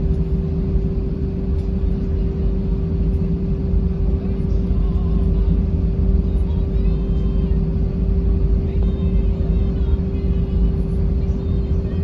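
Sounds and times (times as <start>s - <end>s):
airplane cabin rumble: 0.0s - 12.0s
idling jet engines hum: 0.0s - 12.0s.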